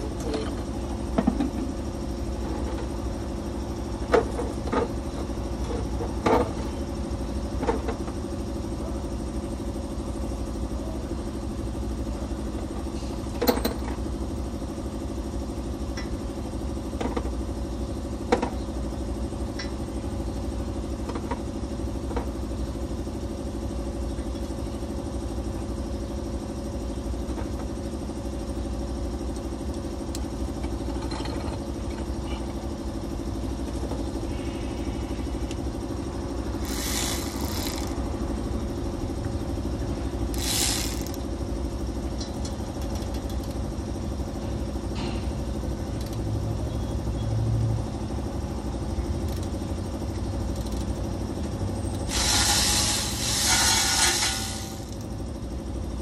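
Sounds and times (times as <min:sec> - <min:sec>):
engine-like hum: 0:00.0 - 0:56.0.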